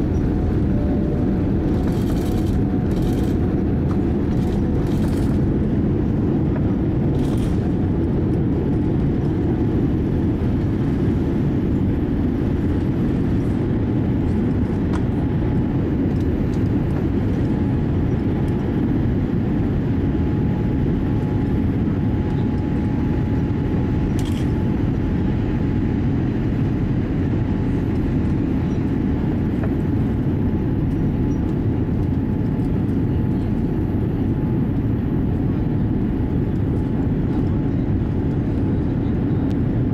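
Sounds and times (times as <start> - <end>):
jet engines and air rush: 0.0 - 39.9.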